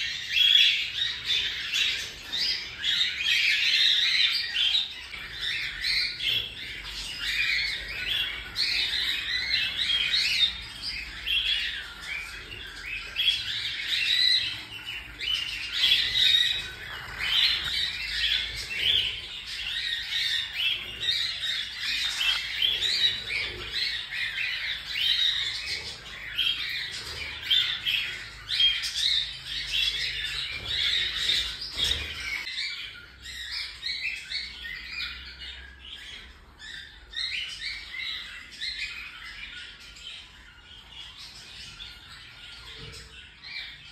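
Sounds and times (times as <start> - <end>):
cockatiels chirping and squawking: 0.0 - 43.9.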